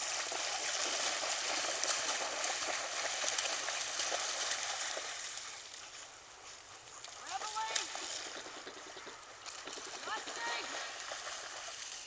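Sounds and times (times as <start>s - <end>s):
dogs trotting through long grass: 0.0s - 12.0s.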